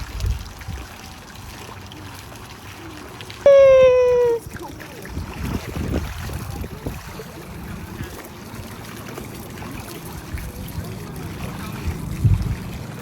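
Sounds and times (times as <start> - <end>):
water lapping and splashing: 0.0 - 13.0.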